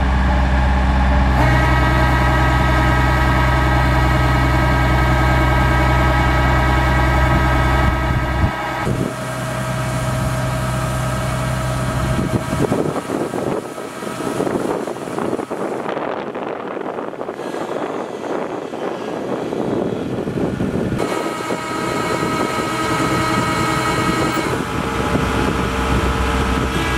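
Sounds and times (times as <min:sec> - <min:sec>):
diesel engine running steadily: 0:00.0 - 0:26.9.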